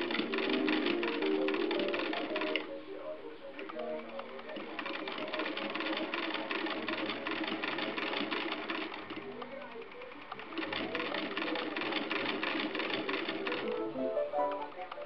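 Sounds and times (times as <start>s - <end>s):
hand-crank sewing machine clatter: 0.0s - 2.7s, 3.6s - 13.8s
background music: 0.0s - 8.2s, 9.9s - 15.0s.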